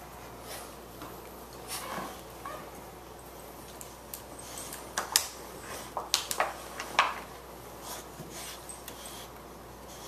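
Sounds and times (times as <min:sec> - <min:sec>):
dogs scuffling: 0:00.4 - 0:09.4.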